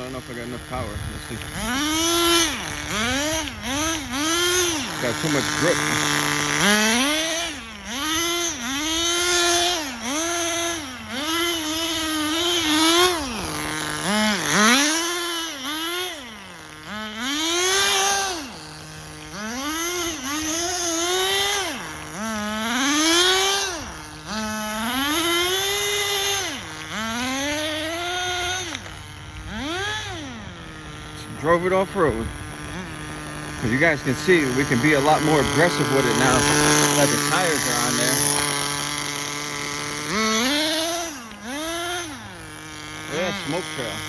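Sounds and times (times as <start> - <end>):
rc car engine revving: 0.0 - 44.0.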